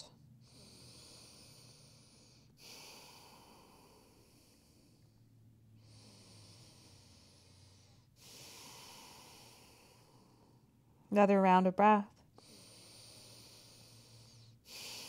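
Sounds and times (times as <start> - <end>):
slow breathing: 0.4 - 11.1, 12.3 - 15.0.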